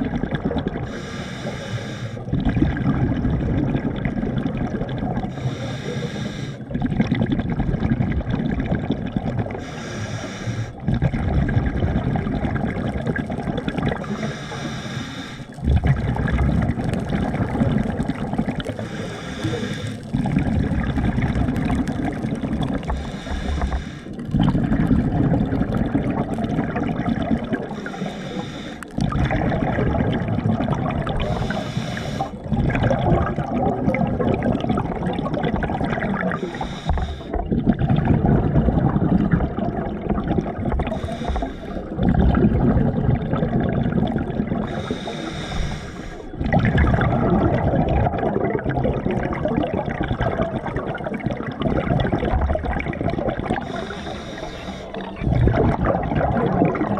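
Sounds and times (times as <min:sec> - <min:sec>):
water sloshing and gurgling: 0:00.0 - 0:56.9.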